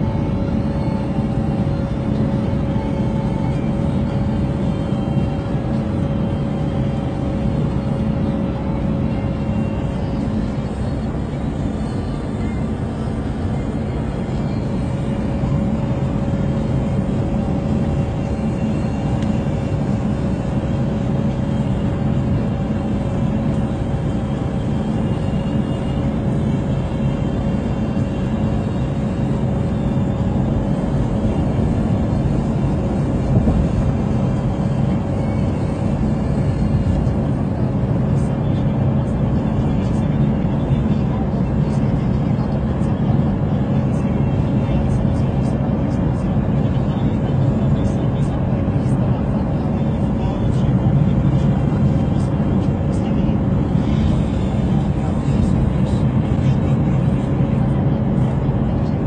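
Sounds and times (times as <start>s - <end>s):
car tyres and engine rumble: 0.0s - 59.0s
faint steady hum: 0.0s - 59.0s.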